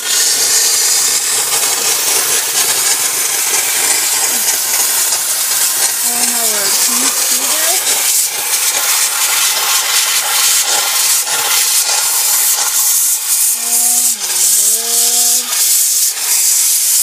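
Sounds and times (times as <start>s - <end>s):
steam cleaner hissing: 0.0s - 17.0s.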